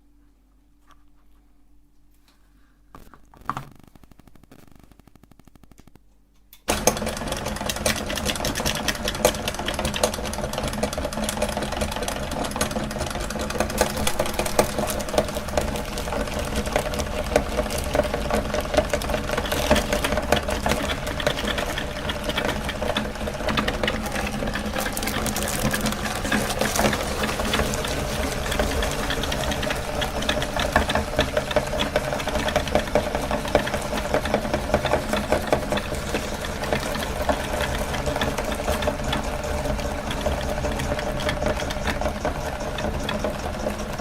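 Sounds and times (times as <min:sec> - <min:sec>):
meat grinder clattering: 0:06.7 - 0:44.0.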